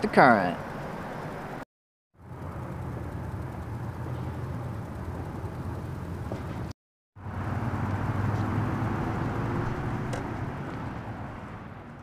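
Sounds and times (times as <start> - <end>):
outdoor rumble and hiss: 0.0 - 1.6, 2.2 - 12.0.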